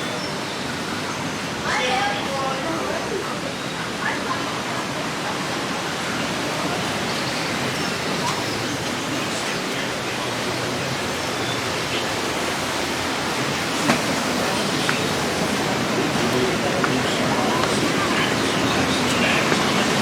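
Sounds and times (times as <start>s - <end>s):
churning water rushing: 0.0s - 20.0s
faint voices: 0.0s - 20.0s.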